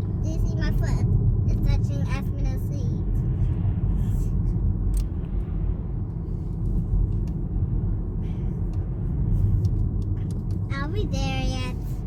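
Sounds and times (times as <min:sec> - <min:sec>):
car road rumble inside cabin: 0:00.0 - 0:12.0.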